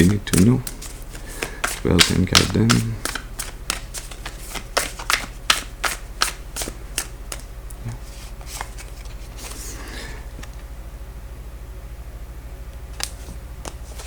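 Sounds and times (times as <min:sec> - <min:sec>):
cards being shuffled: 0:00.0 - 0:10.5, 0:12.9 - 0:14.0
faint low hum: 0:00.0 - 0:14.0.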